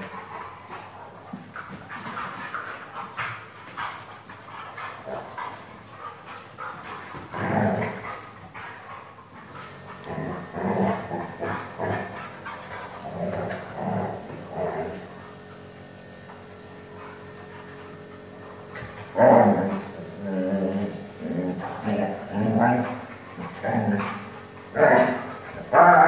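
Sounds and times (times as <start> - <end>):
dogs play-fighting vocalizing: 0.0 - 26.0.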